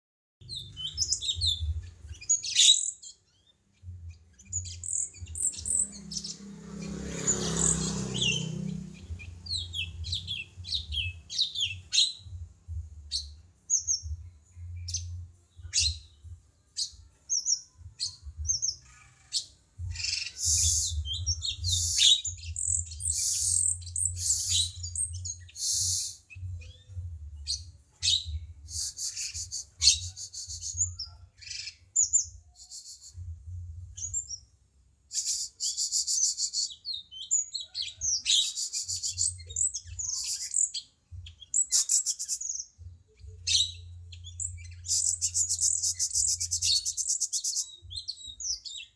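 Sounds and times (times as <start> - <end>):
songbird chirping and trilling: 0.4 - 48.9.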